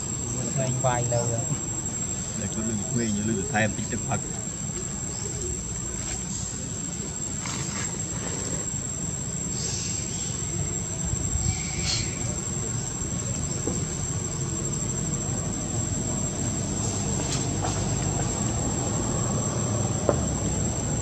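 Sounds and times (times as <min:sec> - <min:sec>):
faint chirps: 0:00.0 - 0:17.4
high insect drone: 0:00.0 - 0:21.0.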